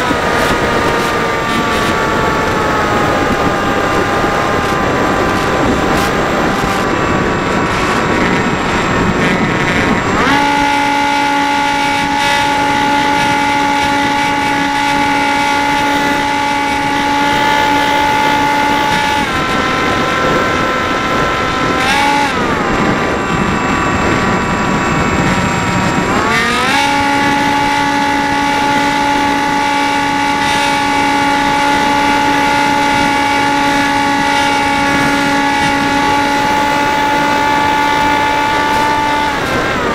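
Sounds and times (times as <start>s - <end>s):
model plane motor whining: 0.0s - 39.9s
wind on microphone: 0.0s - 39.9s.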